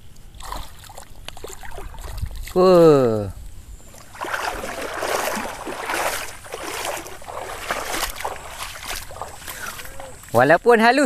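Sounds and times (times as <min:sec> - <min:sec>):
splashing through shallow water: 0:00.0 - 0:03.0, 0:03.7 - 0:10.6.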